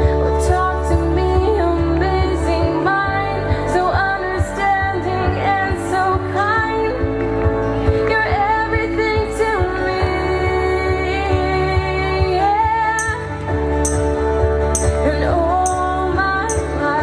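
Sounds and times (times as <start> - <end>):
song with singing over beat: 0.0 - 17.0.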